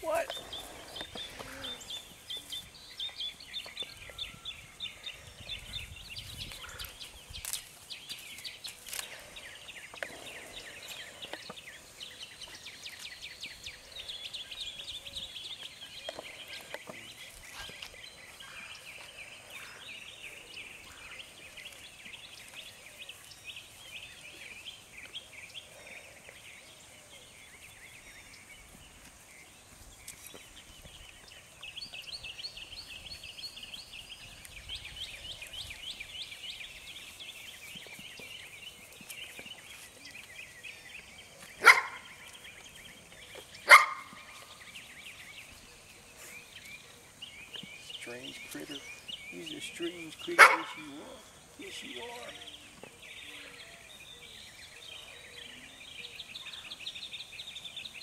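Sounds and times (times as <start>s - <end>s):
birds chattering: 0.0s - 58.0s.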